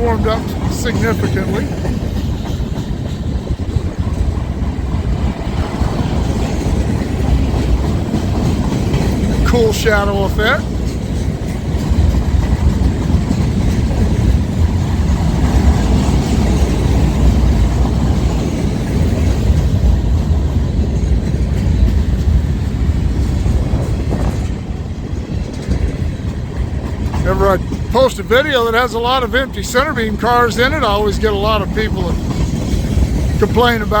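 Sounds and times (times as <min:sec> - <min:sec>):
freight train cars rumbling: 0:00.0 - 0:34.0.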